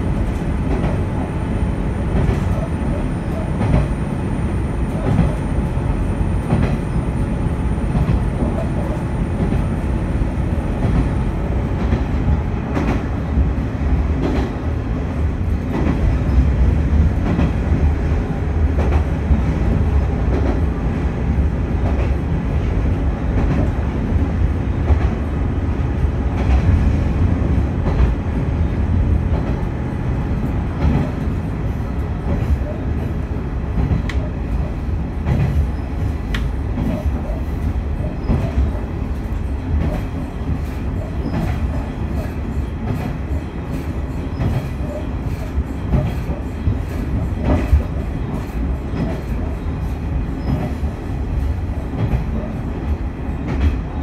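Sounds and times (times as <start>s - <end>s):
railcar rolling and engine drone: 0.0s - 54.0s.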